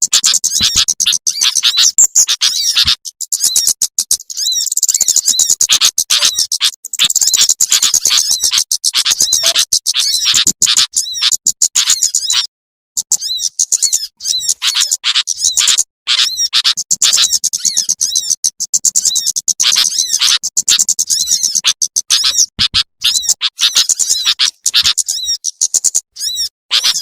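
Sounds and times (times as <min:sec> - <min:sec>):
recorded songbird chirps and trills: 0:00.0 - 0:27.0.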